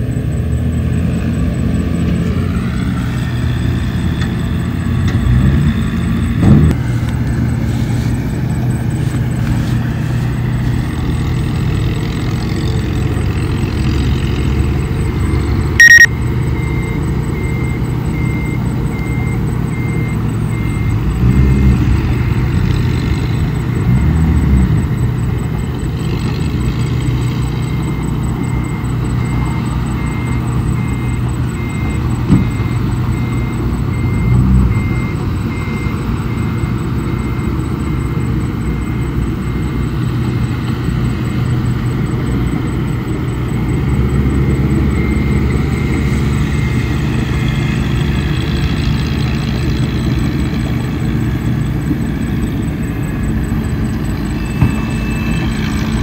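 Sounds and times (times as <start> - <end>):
bulldozer diesel engine running: 0.0 - 56.0
high reversing beep: 0.0 - 56.0.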